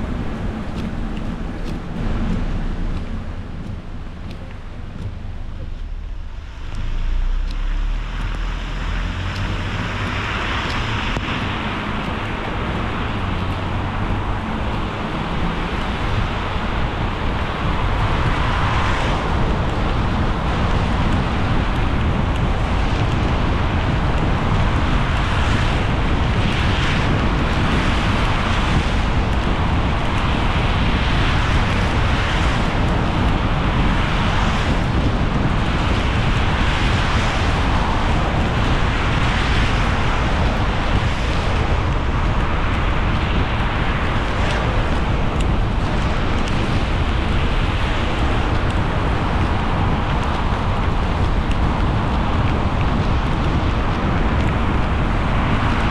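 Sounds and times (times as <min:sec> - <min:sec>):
low engine rumble: 0:00.0 - 0:55.9
tyres hissing on wet road: 0:05.2 - 0:55.9.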